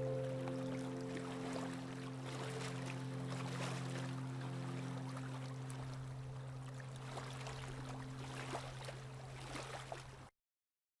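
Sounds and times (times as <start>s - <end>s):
low steady hum: 0.0s - 10.3s
sea water lapping: 0.0s - 10.3s.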